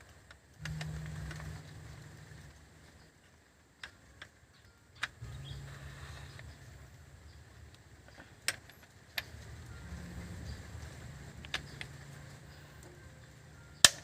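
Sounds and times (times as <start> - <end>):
low steady rumble: 0.0 - 3.8, 5.1 - 14.0.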